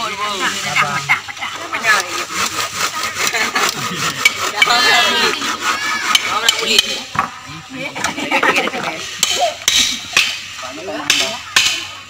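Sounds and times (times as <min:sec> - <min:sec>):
children chattering: 0:00.0 - 0:12.0
bamboo poles clattering: 0:01.2 - 0:12.0.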